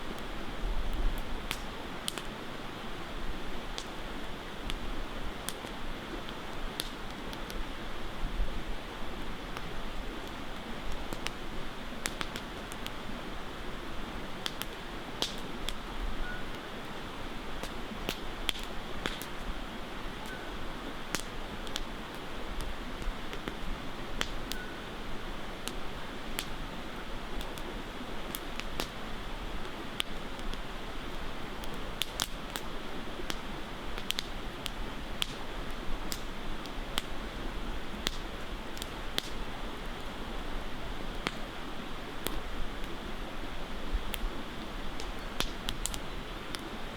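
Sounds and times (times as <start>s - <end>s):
campfire crackling and popping: 0.0s - 46.9s
steady background hiss: 0.0s - 46.9s.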